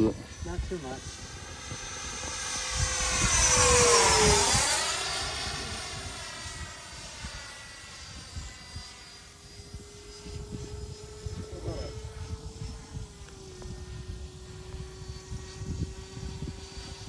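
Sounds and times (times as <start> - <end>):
model jet fan whine flying past: 0.0 - 17.0.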